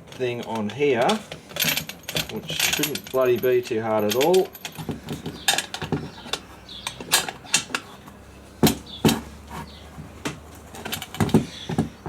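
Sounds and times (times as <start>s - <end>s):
part clicking and creaking by hand: 0.0s - 12.0s.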